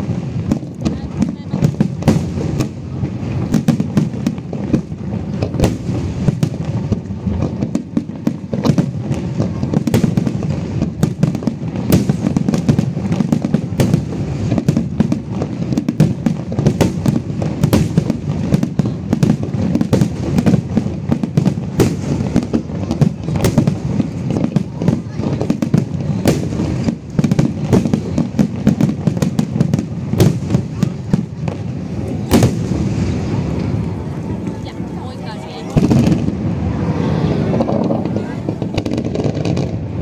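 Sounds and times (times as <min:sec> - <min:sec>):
fireworks cracks and bangs: 0:00.0 - 0:40.0.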